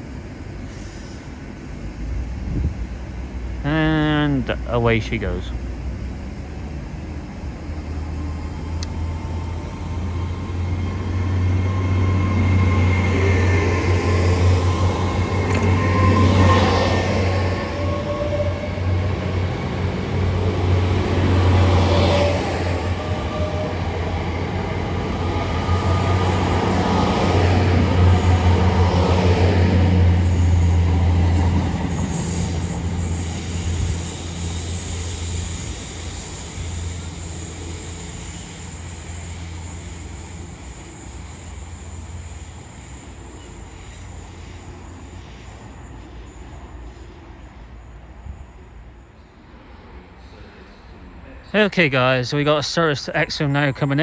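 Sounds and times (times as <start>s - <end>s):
diesel train droning: 0.0s - 54.0s.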